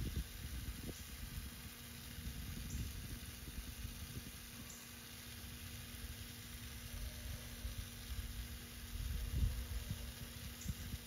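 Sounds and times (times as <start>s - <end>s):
sprinkler spraying water hiss: 0.0s - 11.0s.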